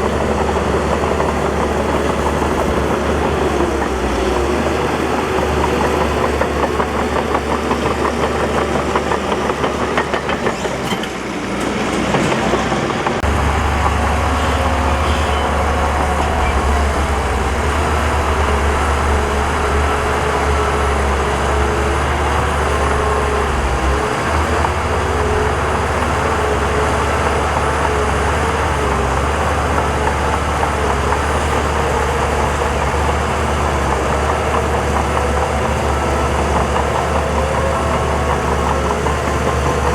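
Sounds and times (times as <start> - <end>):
heavy equipment diesel engine: 0.0 - 39.9.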